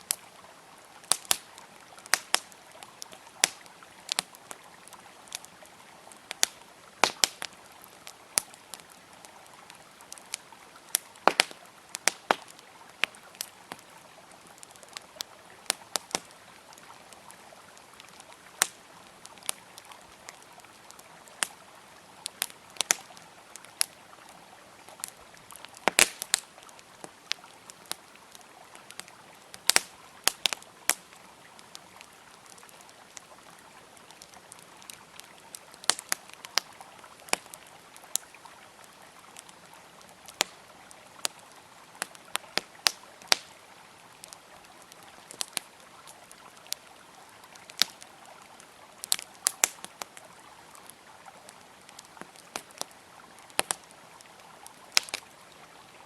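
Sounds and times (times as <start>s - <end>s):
wood fire crackling and popping: 0.0s - 55.3s
river flowing: 0.0s - 56.0s.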